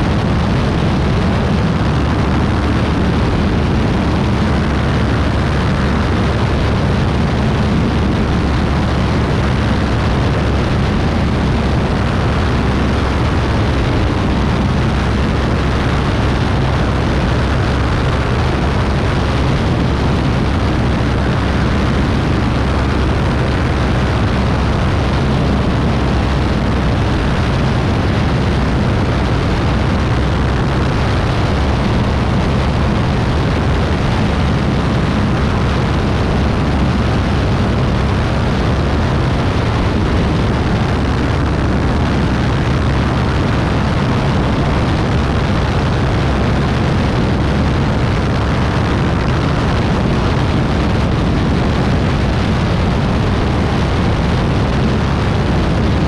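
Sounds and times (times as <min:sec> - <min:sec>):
propeller plane engine drone: 0:00.0 - 0:56.0
rushing air: 0:00.0 - 0:56.0.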